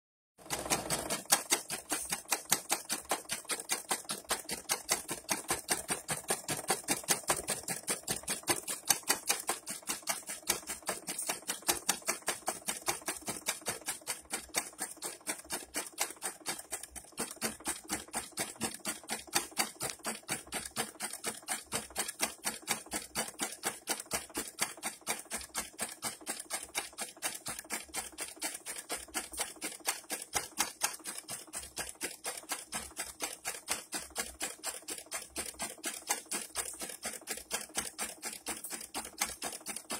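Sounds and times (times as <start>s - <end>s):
embroidery machine stitching: 0.4s - 39.9s.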